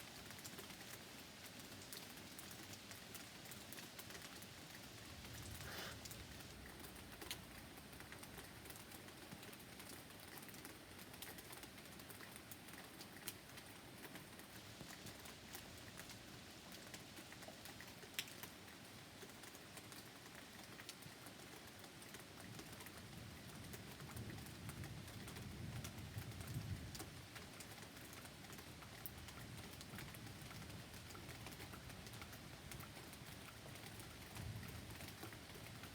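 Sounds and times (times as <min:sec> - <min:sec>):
faint rain pattering: 0:00.0 - 0:35.9.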